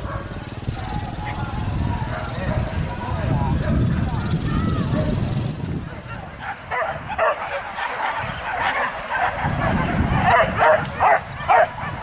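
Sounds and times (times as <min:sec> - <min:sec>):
dogs barking and yelping: 0:00.0 - 0:04.1, 0:06.0 - 0:12.0.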